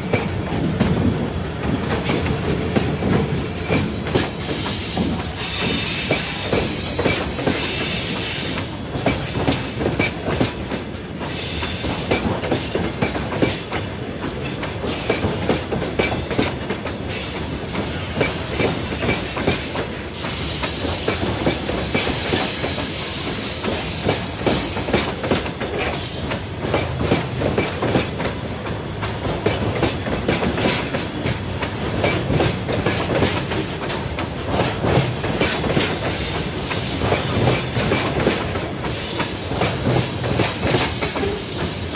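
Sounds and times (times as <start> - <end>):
train wheels clattering over rail joints: 0.0 - 41.9.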